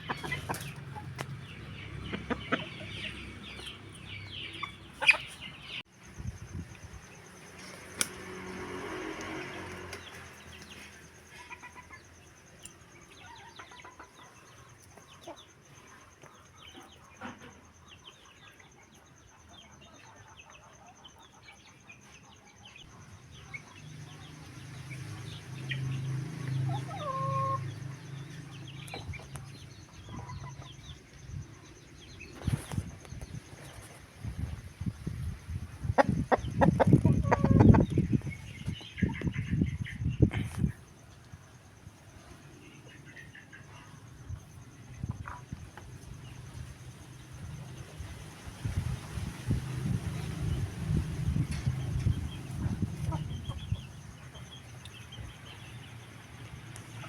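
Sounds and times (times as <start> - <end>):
chickens clucking: 0.0 - 5.8, 7.5 - 31.4, 32.3 - 41.3, 42.1 - 48.0, 48.9 - 57.0.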